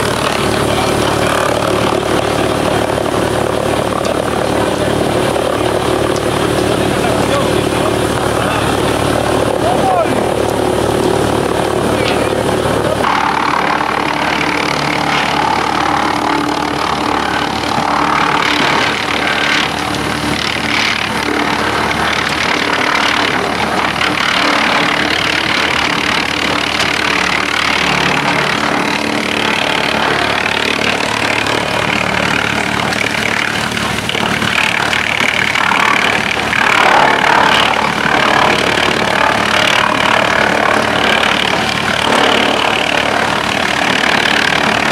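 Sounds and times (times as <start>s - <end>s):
wood chipper running: 0.0s - 44.9s.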